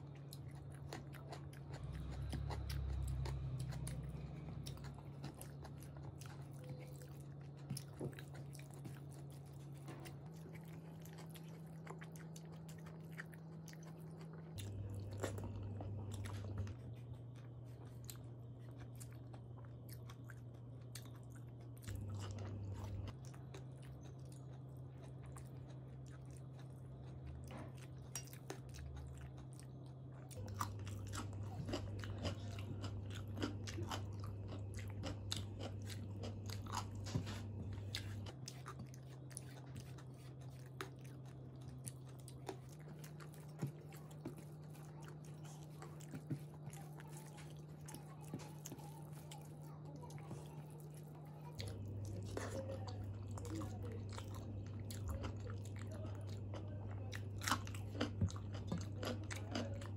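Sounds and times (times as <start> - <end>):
low steady hum: 0.0 - 59.9
person chewing food: 0.0 - 59.9.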